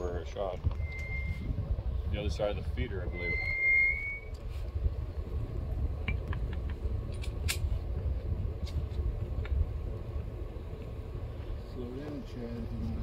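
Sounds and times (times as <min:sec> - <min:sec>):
low microphone rumble: 0:00.0 - 0:13.0.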